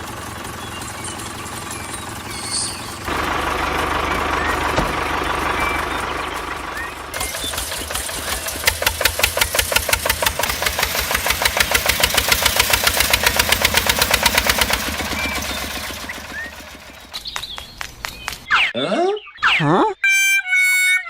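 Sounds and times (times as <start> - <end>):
small engine chugging: 0.0 - 18.5.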